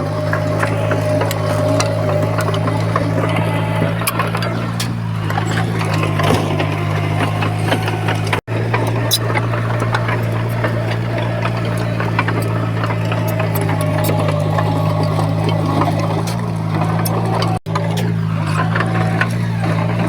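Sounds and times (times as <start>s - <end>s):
clicks and clanks: 0.0s - 20.0s
heavy diesel machinery engine drone: 0.0s - 20.0s.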